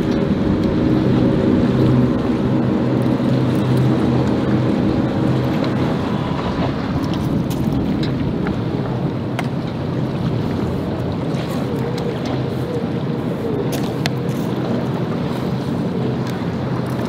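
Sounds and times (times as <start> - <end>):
motorboat engine drone: 0.0 - 17.0
wind on microphone: 0.0 - 17.0.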